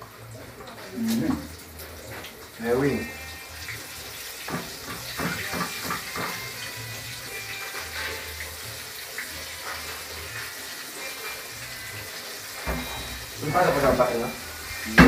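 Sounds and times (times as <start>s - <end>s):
water rushing from tap: 0.0s - 15.0s.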